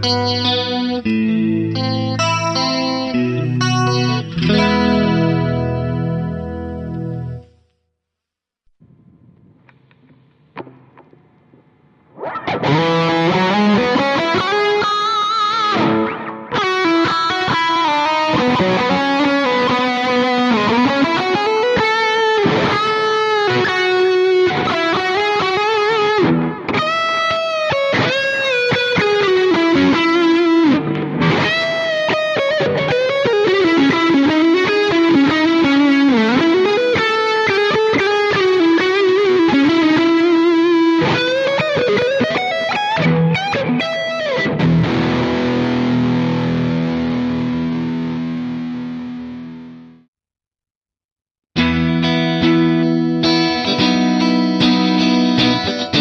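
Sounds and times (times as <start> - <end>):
distorted electric guitar lead: 0.0 - 7.7, 8.8 - 50.1, 51.6 - 56.0.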